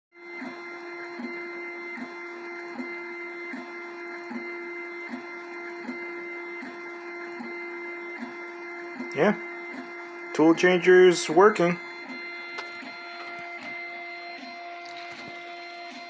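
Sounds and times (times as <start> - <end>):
printer motors whining: 0.2 - 16.0.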